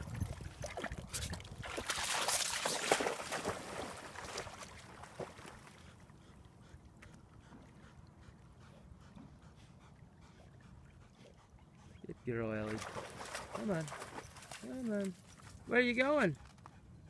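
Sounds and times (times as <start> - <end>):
water splashing and sloshing: 0.0 - 16.6.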